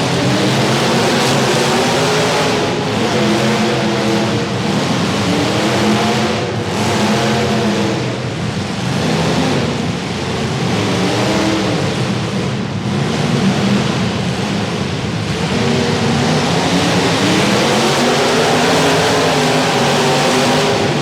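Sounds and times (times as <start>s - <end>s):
car engines revving hard: 0.0s - 21.0s.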